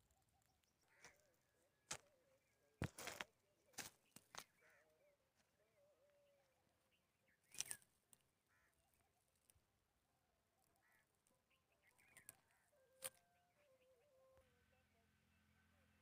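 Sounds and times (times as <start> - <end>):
faint distant bird calls: 0.0 - 16.0.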